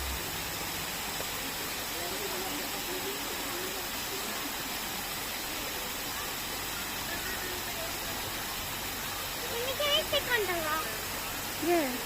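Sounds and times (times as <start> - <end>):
running water rushing: 0.0 - 12.0
faint voices: 0.1 - 12.0.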